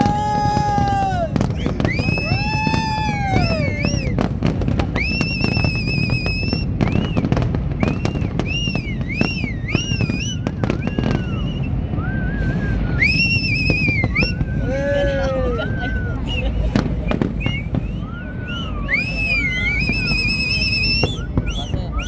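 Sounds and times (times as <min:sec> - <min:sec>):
fireworks bangs and crackles: 0:00.0 - 0:22.0
shrill whistling fireworks: 0:00.0 - 0:22.0.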